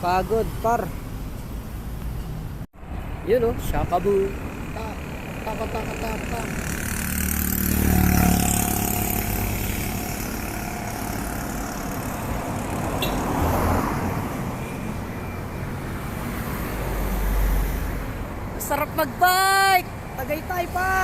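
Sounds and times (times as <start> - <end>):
traffic passing close by: 0.0 - 21.0.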